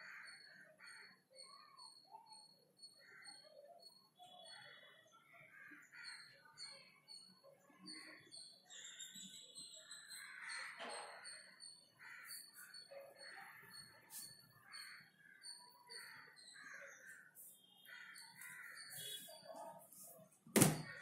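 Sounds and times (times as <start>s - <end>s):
faint caw-like bird calls: 0.0s - 7.2s, 10.0s - 19.8s, 20.8s - 21.0s.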